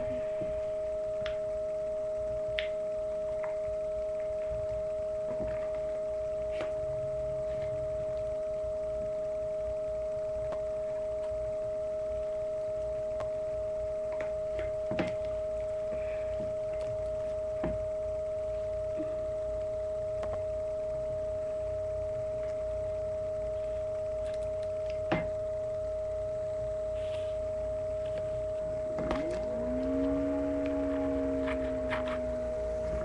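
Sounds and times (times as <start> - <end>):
steady two-note tone: 0.0 - 33.0.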